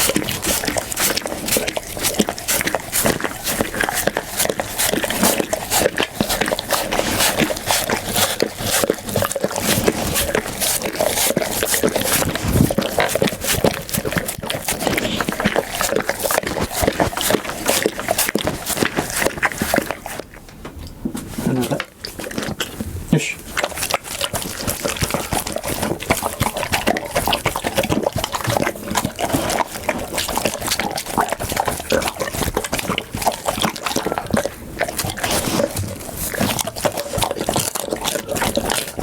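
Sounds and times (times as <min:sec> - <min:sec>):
dog chewing and crunching food: 0:00.0 - 0:39.0.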